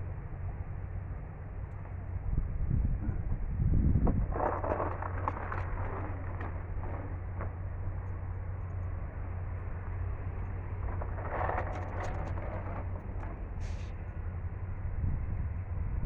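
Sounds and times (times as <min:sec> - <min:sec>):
vehicle engine humming: 0:00.0 - 0:16.0
crackles and rustles: 0:01.6 - 0:14.8.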